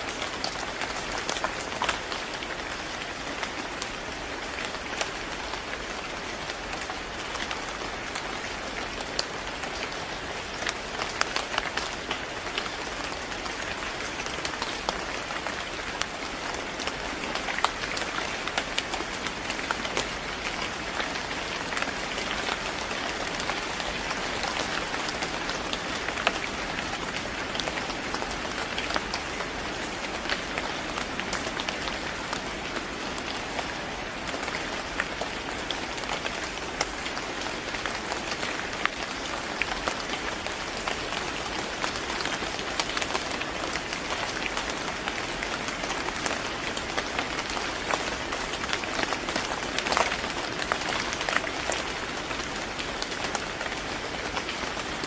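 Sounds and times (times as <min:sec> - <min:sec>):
rain on a hard surface: 0:00.0 - 0:55.0.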